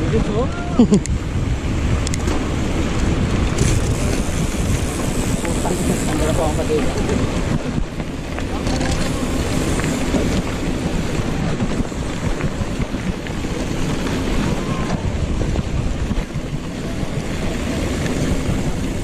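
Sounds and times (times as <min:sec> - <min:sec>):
wind buffeting microphone: 0:00.0 - 0:19.0
tyres rolling over gravel: 0:02.2 - 0:19.0.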